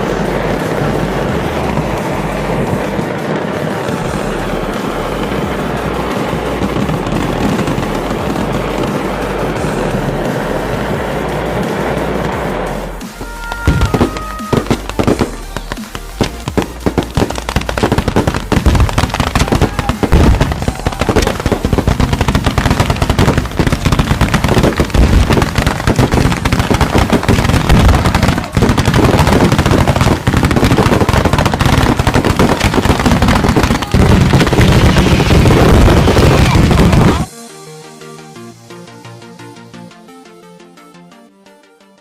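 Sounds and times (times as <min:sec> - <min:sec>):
firecrackers popping: 0:00.0 - 0:37.3.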